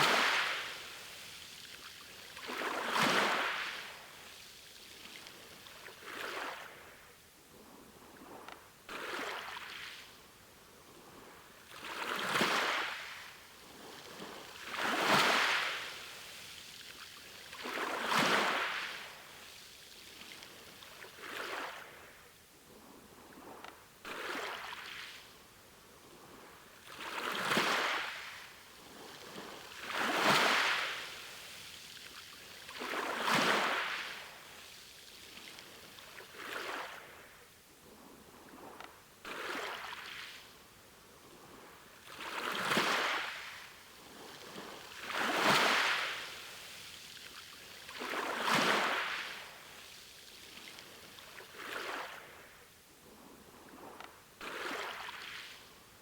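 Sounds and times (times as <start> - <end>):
sea waves washing in: 0.0 - 7.2, 10.8 - 22.2, 26.1 - 40.4, 41.2 - 55.8.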